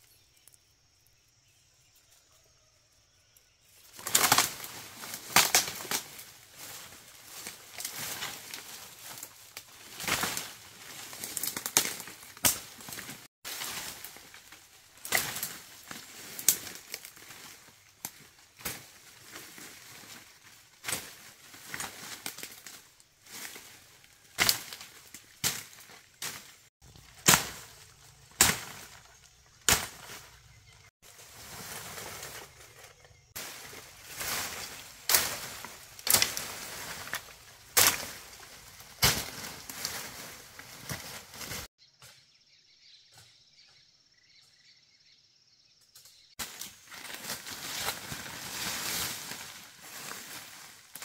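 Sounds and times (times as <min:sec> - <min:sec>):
rustling and crackling: 0:03.9 - 0:41.7, 0:46.4 - 0:51.0.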